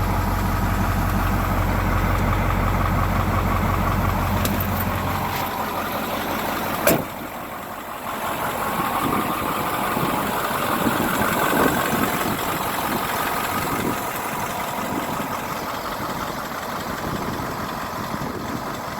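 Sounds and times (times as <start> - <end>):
truck engine idling: 0.0 - 18.9.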